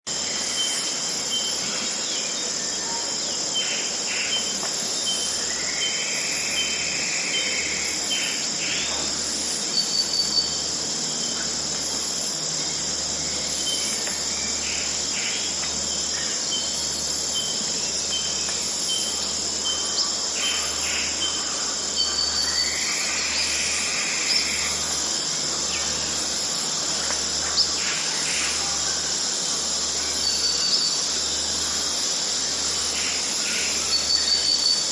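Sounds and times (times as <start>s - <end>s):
insect chorus: 0.1s - 34.9s.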